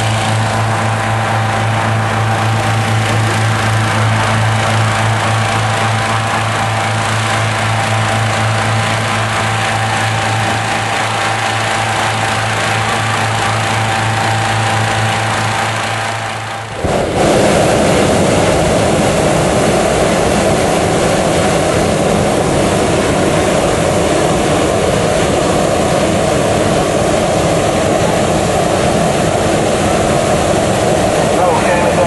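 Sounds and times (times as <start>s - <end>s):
engine humming: 0.0s - 32.0s
propane burner roaring: 0.0s - 32.0s.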